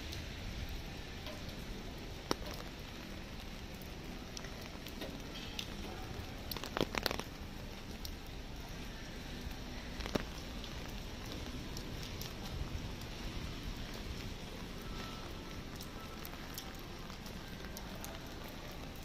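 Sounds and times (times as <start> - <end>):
light rain on a street: 0.0 - 19.0
sharp ticks of raindrops: 0.0 - 19.0.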